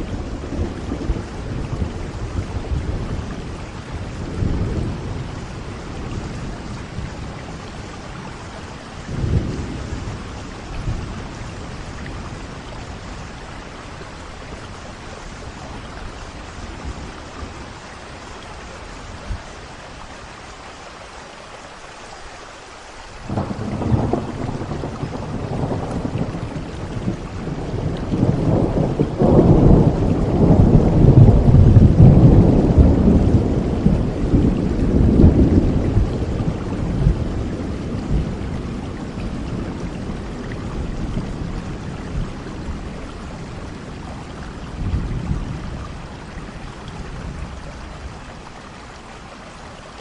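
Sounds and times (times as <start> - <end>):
thunder rumbling: 0.0 - 19.8, 23.2 - 48.6
rain falling: 0.0 - 50.0.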